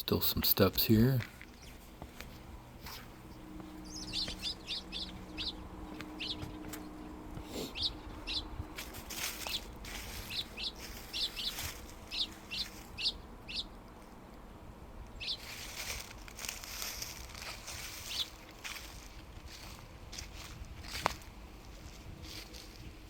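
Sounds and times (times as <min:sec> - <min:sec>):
footsteps on leaf-covered steps: 0:00.0 - 0:13.0, 0:15.4 - 0:23.0
small birds chirping: 0:00.0 - 0:23.0.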